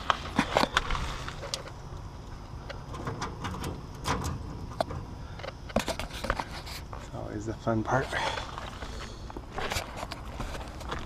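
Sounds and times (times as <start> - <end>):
clicks and scrapes of wire and tools: 0.0 - 1.8, 2.6 - 7.2, 7.9 - 11.0
low background rumble: 0.0 - 11.0.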